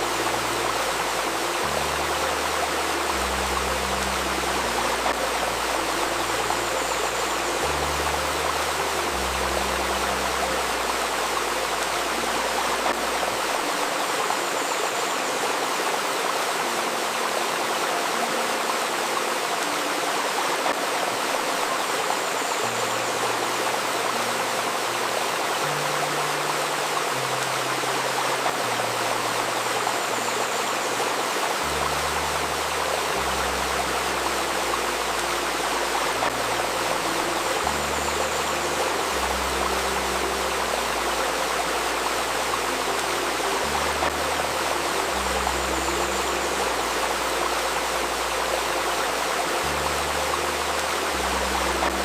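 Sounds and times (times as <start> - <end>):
babbling river: 0.0 - 52.0.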